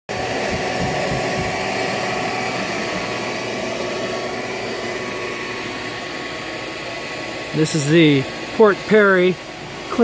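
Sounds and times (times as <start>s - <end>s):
vacuum cleaner motor running: 0.1s - 10.0s.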